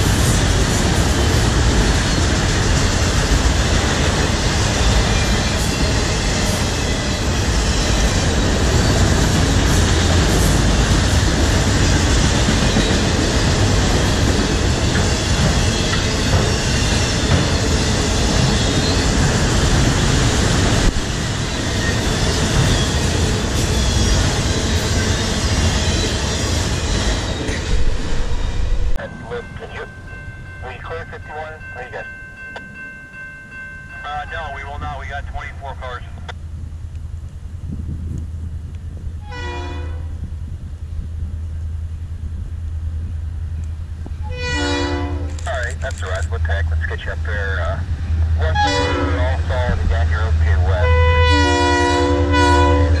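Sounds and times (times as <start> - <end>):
freight train wheels rumbling: 0.0 - 53.0.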